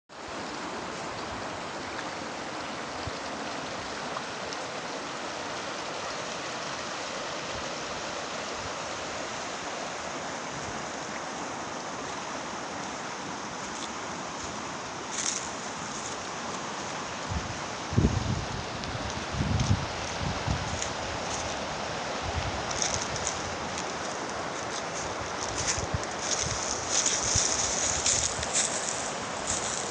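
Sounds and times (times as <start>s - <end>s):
river water flowing: 0.1s - 29.9s.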